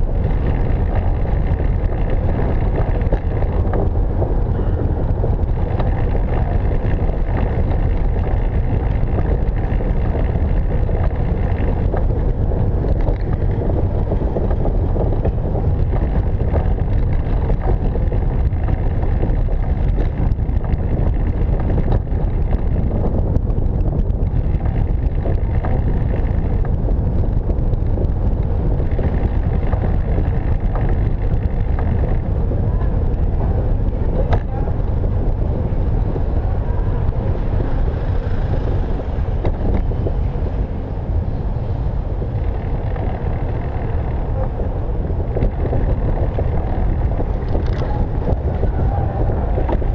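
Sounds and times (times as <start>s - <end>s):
velomobile rolling over pavement: 0.0s - 49.9s.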